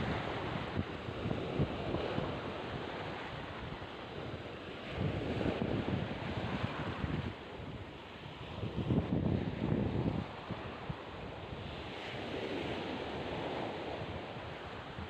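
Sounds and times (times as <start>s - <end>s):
wind gusting on microphone: 0.0s - 15.0s.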